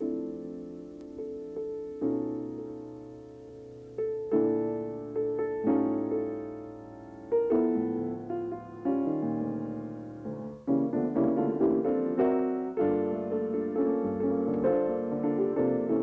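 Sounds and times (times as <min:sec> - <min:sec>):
grand piano jazz chords: 0:00.0 - 0:16.0.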